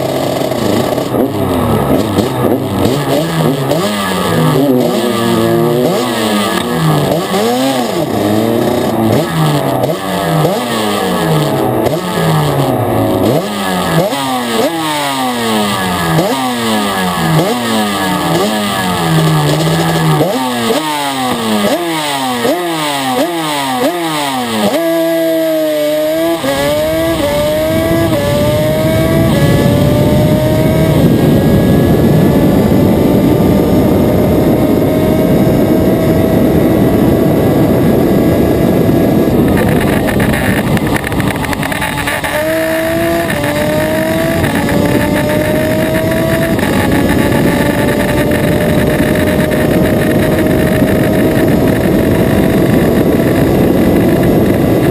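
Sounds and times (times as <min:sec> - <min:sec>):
quad engine racing: 0:00.0 - 0:54.9.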